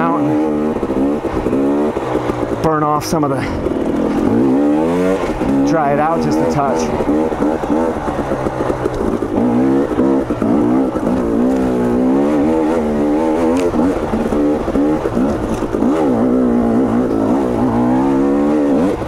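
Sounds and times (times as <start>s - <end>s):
two-stroke dirt bike engine revving: 0.0s - 19.0s.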